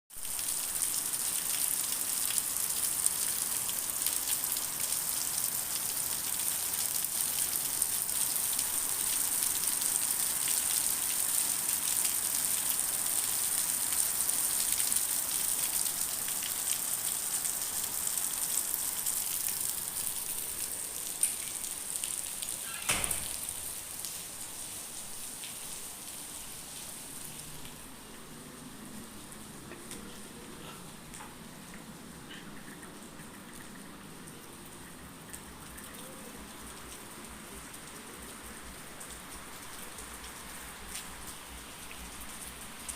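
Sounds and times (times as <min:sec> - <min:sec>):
rain patter: 0:00.1 - 0:42.9.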